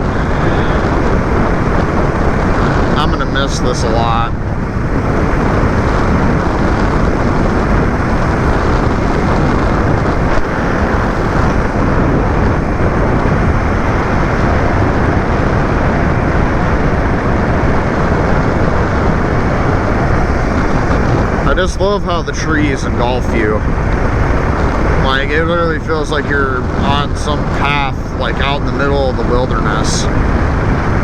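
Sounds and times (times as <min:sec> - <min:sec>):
vehicle rumbling on rough road: 0:00.0 - 0:31.0.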